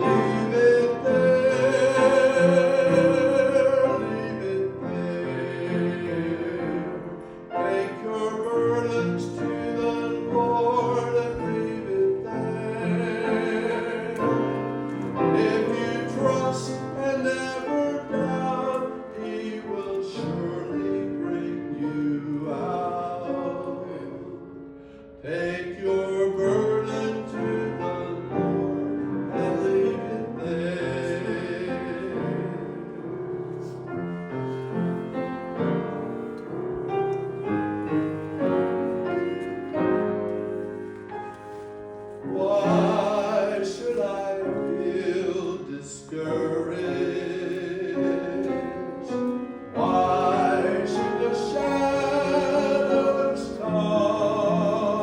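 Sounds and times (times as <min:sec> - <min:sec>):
person singing with vibrato: 0:00.0 - 0:35.3, 0:41.4 - 0:55.0
piano: 0:00.0 - 0:55.0.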